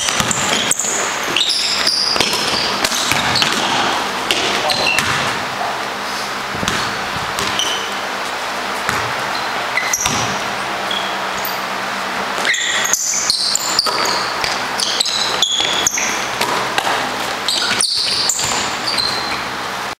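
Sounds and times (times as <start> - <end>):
basketball bouncing on gym floor: 0.0 - 5.5, 6.4 - 11.6, 12.2 - 19.6
sneaker squeaks: 0.0 - 19.9.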